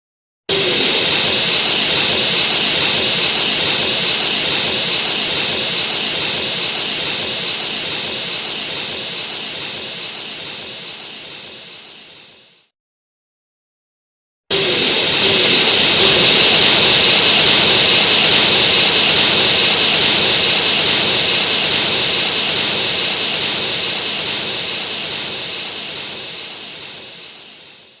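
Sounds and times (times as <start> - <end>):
loud rushing hiss: 0.5 - 12.7, 14.5 - 28.0.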